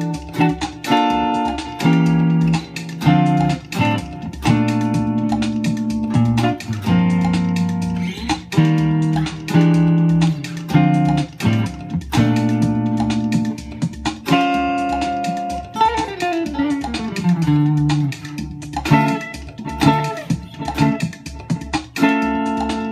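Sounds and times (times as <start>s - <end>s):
electric guitar playing: 0.0s - 22.9s.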